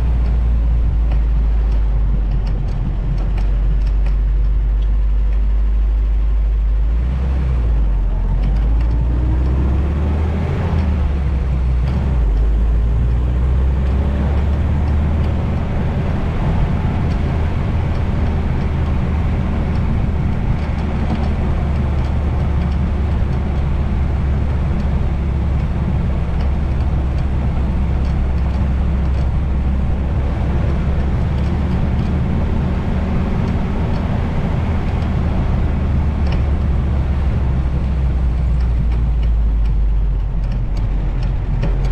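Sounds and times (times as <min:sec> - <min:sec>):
jeep engine running: 0:00.0 - 0:41.9
wind rumble on microphone: 0:00.0 - 0:41.9.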